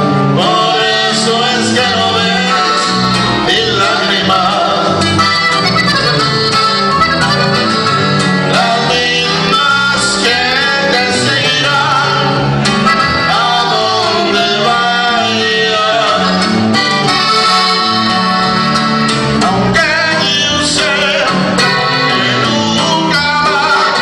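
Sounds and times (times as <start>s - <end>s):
button accordion melody: 0.0s - 24.0s
electric bass line: 0.0s - 24.0s
strummed guitar: 0.0s - 24.0s.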